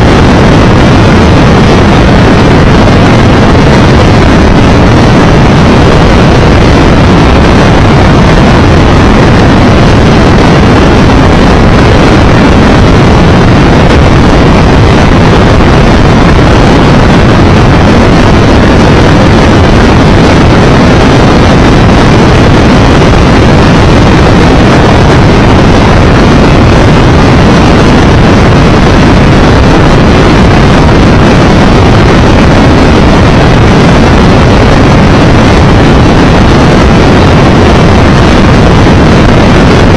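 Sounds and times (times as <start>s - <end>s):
wind roar buffeting microphone: 0.0s - 39.9s.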